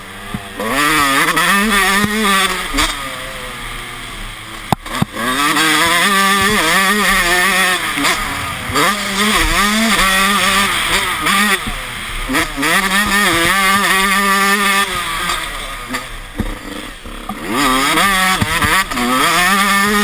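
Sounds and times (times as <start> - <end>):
two-stroke motocross engine revving: 0.0 - 20.0.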